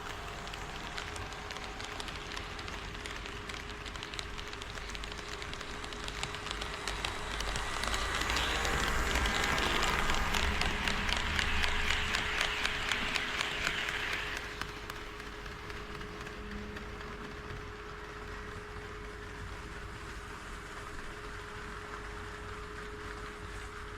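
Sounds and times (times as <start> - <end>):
model train wheels clicking on track: 0.0 - 23.9.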